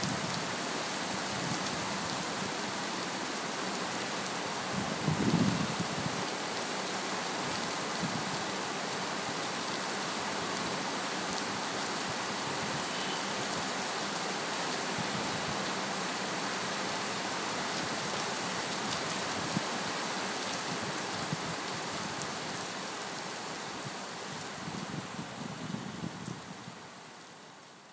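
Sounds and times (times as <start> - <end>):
heavy rain hissing: 0.0 - 26.1.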